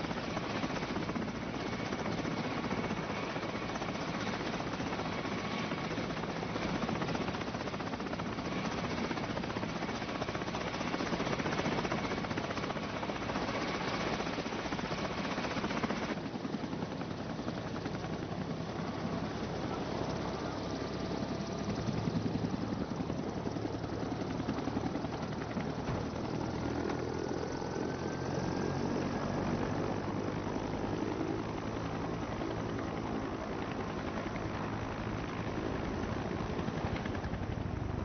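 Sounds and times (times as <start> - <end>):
helicopter running: 0.0 - 38.0.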